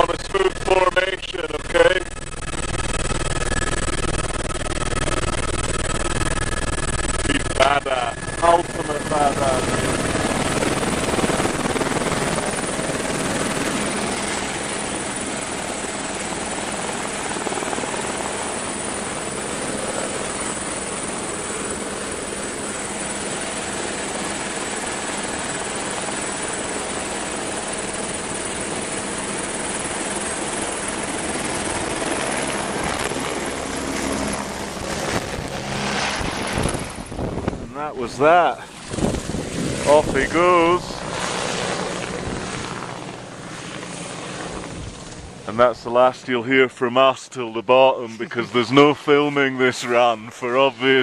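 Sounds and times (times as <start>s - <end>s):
helicopter turbine and rotor: 0.0s - 51.0s.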